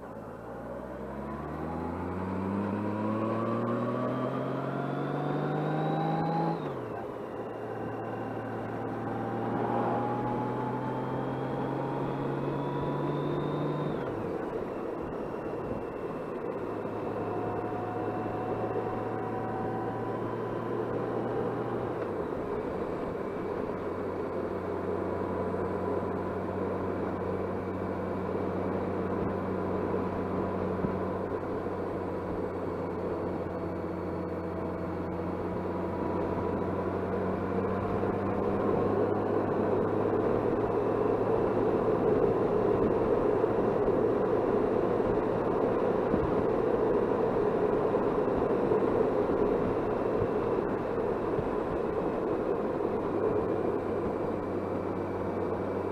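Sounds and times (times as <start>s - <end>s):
motorcycle engine hum: 0.0s - 55.9s.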